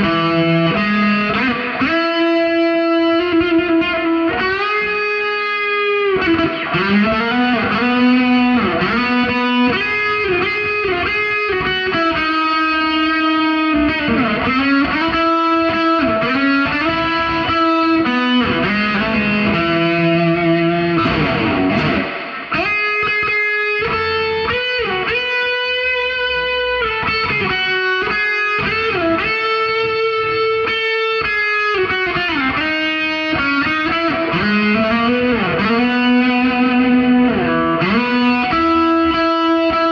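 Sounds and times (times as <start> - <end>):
distorted electric guitar lead: 0.0 - 39.9.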